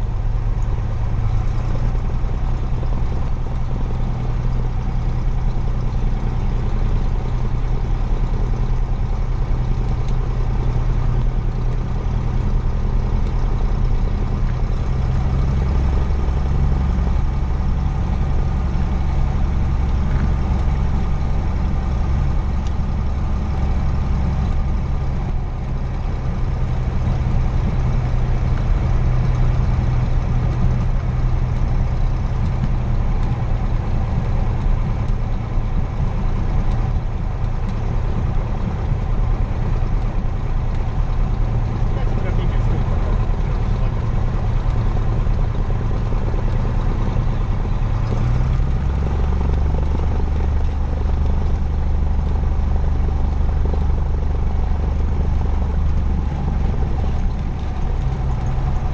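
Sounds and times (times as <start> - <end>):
propeller engine droning: 0.0 - 58.9.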